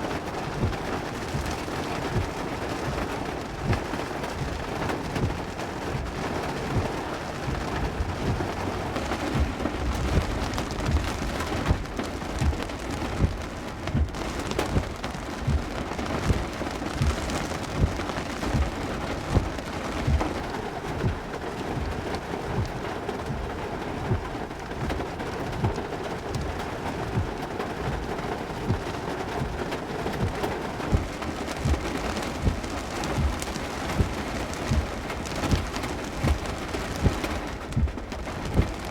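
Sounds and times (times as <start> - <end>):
heavy rain pouring: 0.0 - 38.9
low thumps: 0.5 - 38.9.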